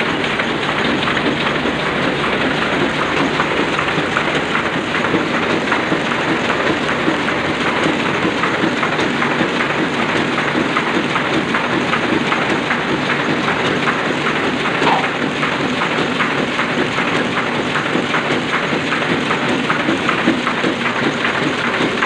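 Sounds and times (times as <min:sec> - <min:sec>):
printing press clattering: 0:00.0 - 0:22.0.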